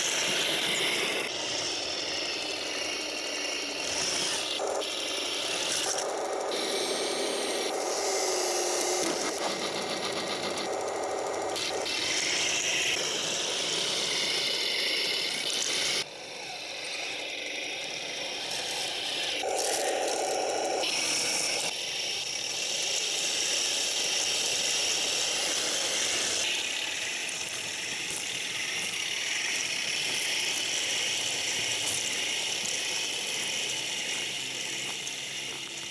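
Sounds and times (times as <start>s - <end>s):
toy tank motor whine: 0.0s - 35.9s.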